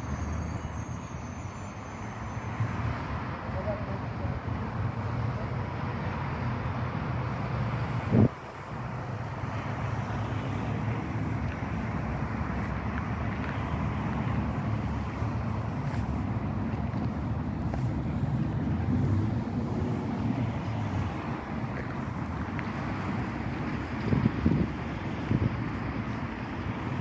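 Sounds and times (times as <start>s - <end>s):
distant street traffic rumble: 0.0s - 27.0s.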